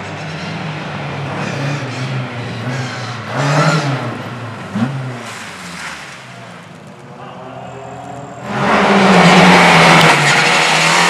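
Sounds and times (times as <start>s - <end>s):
race car engines revving: 0.0s - 11.0s
race car passing: 0.2s - 11.0s.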